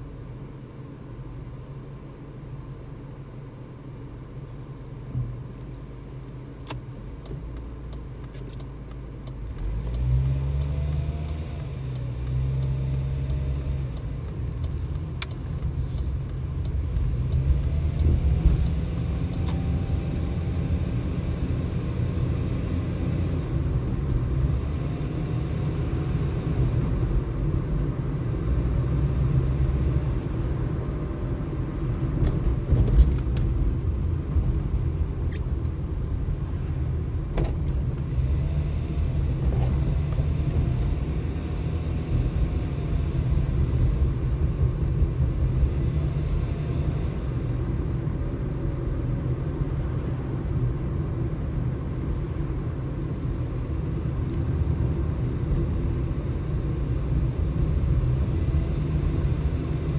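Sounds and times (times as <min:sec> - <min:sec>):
engine and tyre rumble: 0:00.0 - 0:59.9.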